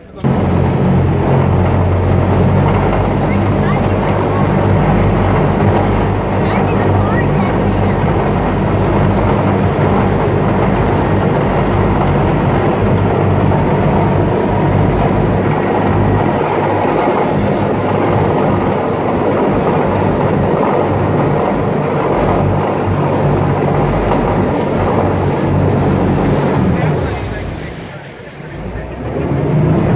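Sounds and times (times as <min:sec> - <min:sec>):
boat engine droning: 0:00.0 - 0:29.9
water churning: 0:00.0 - 0:29.9.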